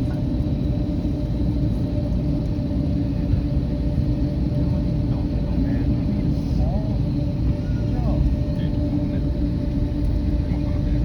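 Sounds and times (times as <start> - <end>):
airliner rumble: 0.0 - 11.0
constant hum: 0.0 - 11.0.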